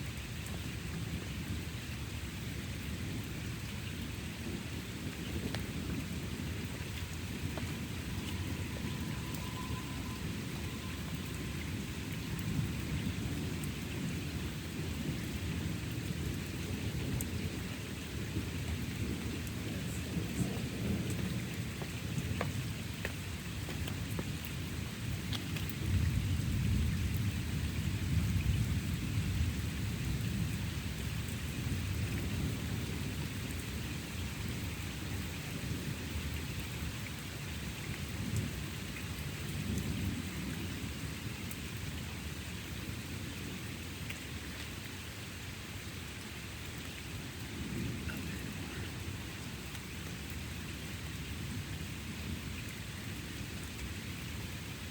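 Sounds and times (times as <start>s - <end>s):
steady rain: 0.0s - 54.9s
low rolling thunder: 2.4s - 43.8s, 47.3s - 53.4s.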